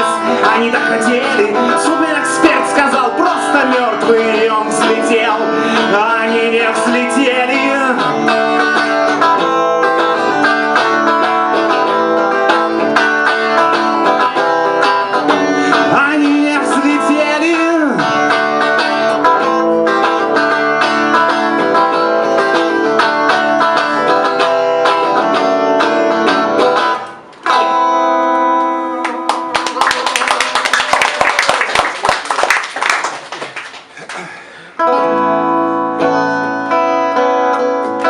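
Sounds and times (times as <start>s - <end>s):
guitar strumming: 0.0s - 29.8s, 34.8s - 38.0s.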